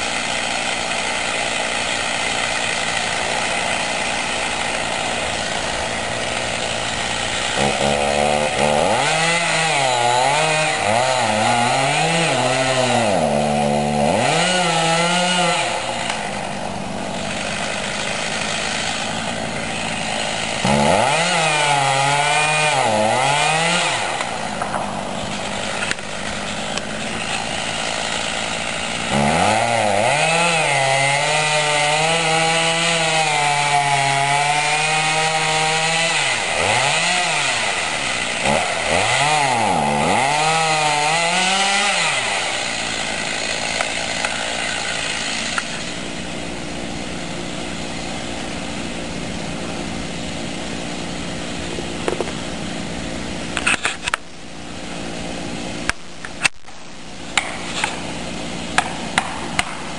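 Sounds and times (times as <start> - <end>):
chainsaw cutting into tree trunk: 0.0 - 59.9.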